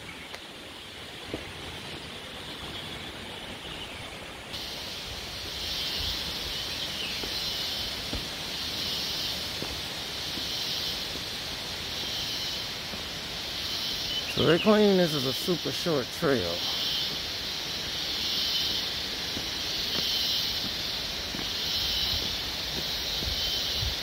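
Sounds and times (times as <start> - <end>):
insects buzzing: 0.0 - 24.0
low background rush: 0.0 - 24.0.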